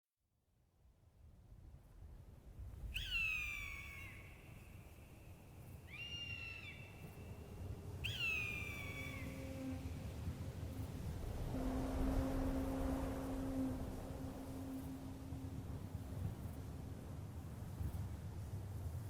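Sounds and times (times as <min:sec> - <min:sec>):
low wind rumble: 0:01.2 - 0:19.0.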